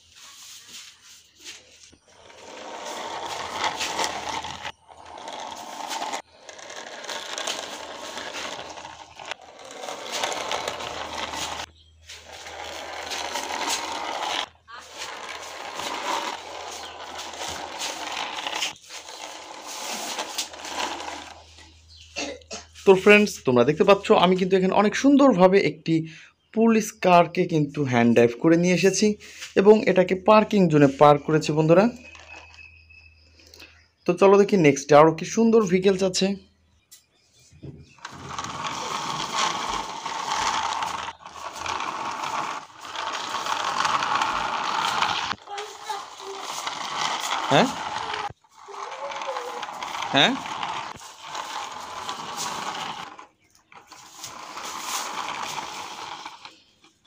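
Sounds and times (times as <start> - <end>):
toy car wheels rolling on concrete: 0.0 - 22.2, 22.8 - 25.5, 27.8 - 33.8, 34.4 - 57.0.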